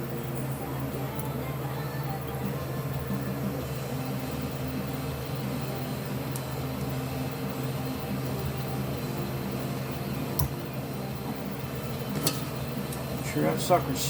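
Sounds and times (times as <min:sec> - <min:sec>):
shop equipment humming: 0:00.0 - 0:14.0.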